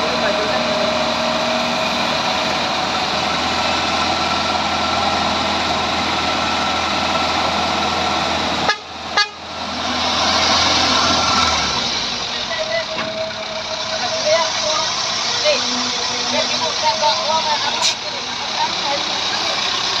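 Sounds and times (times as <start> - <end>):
truck engine running at raised revs: 0.0 - 20.0.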